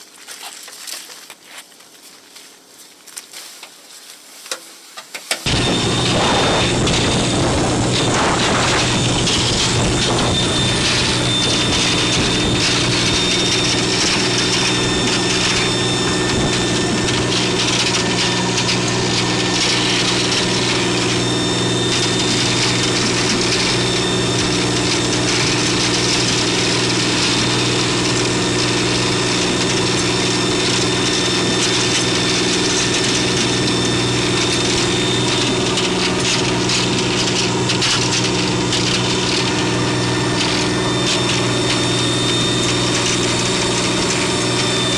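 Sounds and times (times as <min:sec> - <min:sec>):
boat engine running: 0:05.4 - 0:44.9.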